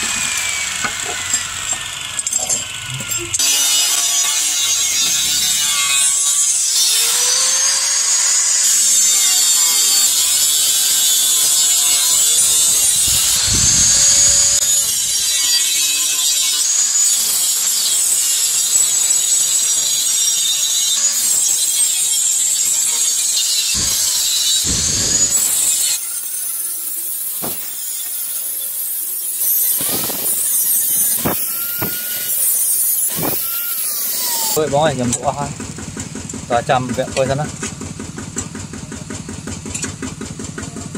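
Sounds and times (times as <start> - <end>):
angle grinder cutting steel: 0.0 - 35.6.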